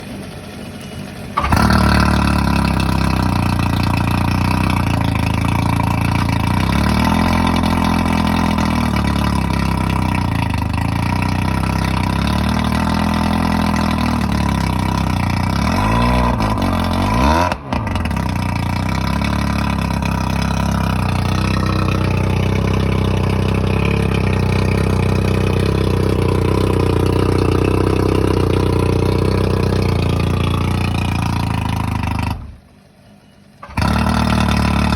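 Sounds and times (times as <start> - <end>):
outboard motor revving: 1.4 - 32.7, 33.6 - 34.9.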